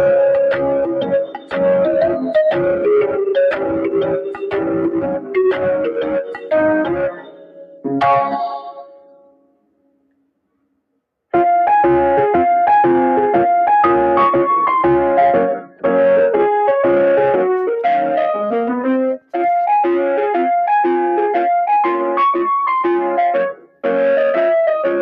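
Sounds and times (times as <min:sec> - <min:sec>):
keyboard melody: 0:00.0 - 0:09.9, 0:11.4 - 0:25.0.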